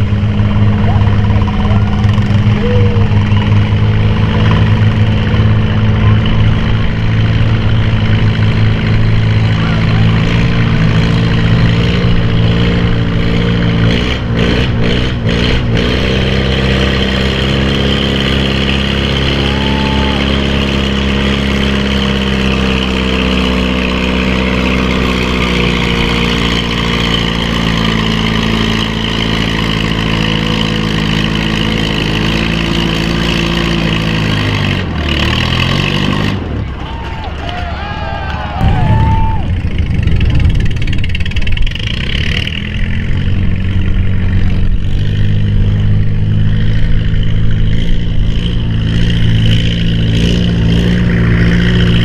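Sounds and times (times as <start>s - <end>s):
tractor engine running under load: 0.0s - 52.0s.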